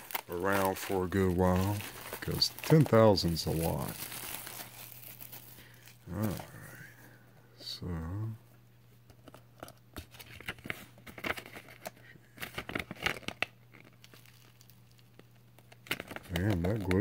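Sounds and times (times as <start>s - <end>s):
glued paper peeling and crinkling: 0.0s - 6.7s, 9.3s - 17.0s.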